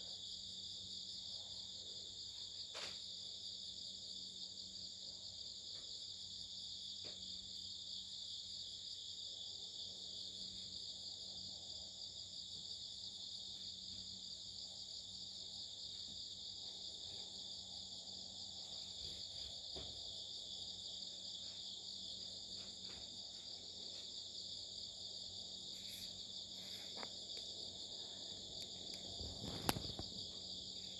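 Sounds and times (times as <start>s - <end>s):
insects trilling: 0.0s - 30.9s.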